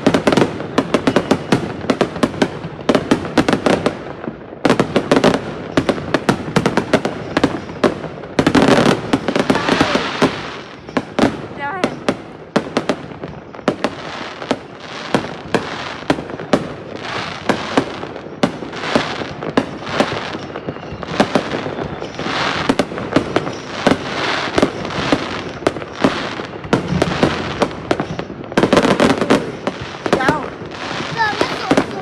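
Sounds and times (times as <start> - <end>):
firework bangs: 0.0 - 32.0
fireworks crackling and fizzing: 0.0 - 32.0.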